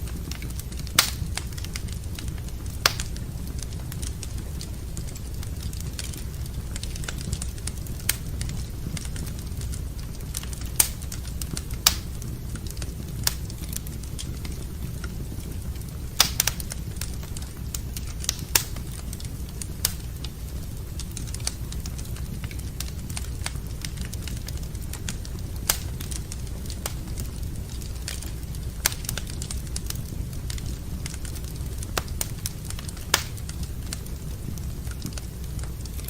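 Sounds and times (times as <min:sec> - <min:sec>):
fire crackling and popping: 0:00.0 - 0:36.0
low rumble of flame: 0:00.0 - 0:36.0.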